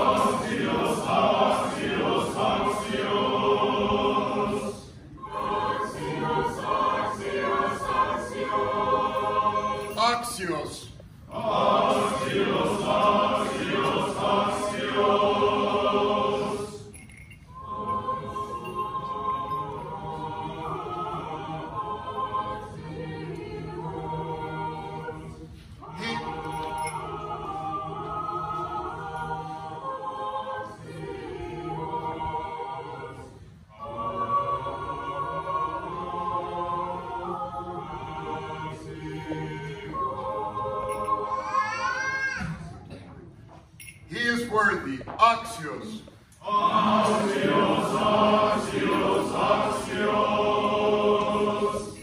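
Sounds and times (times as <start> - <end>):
choir singing liturgical chant: 0.0 - 42.7, 44.2 - 52.0.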